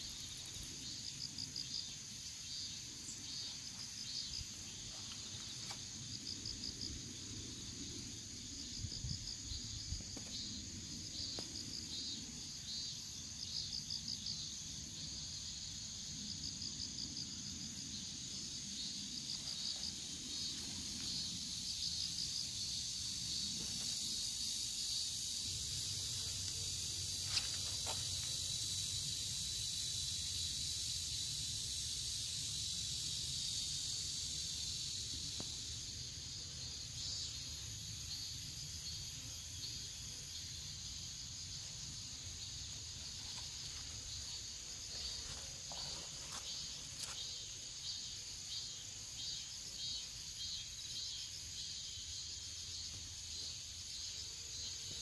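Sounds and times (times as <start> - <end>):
insects chirping in grass: 0.0 - 55.0.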